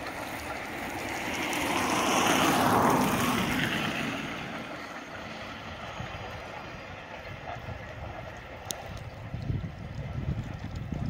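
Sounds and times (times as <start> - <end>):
train passing: 0.0 - 10.6.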